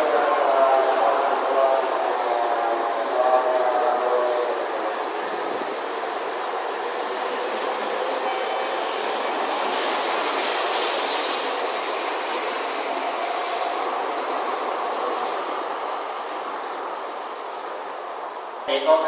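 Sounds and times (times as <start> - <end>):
train rushing: 0.0 - 18.7.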